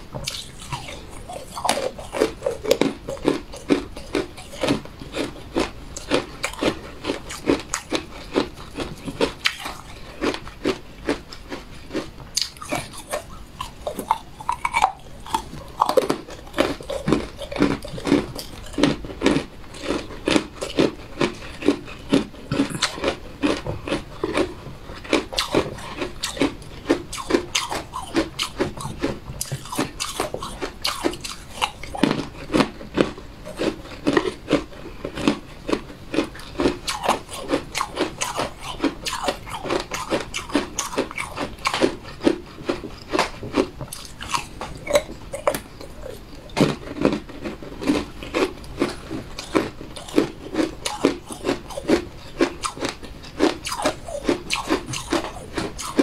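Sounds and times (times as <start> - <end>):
person chewing crunchy cookies: 0.0 - 56.0.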